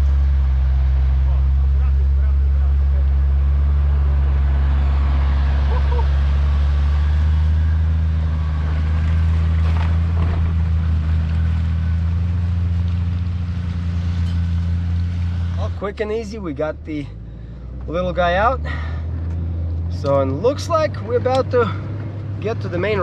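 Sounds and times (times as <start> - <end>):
vehicle engine humming steadily: 0.0 - 23.0.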